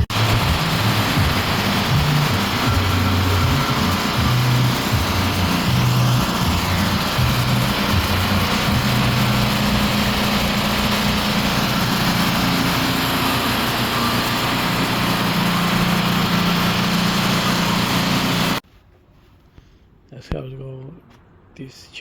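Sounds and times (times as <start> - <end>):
engine running: 0.0 - 18.6
loud even hiss: 0.0 - 18.6
low hum: 0.0 - 18.6.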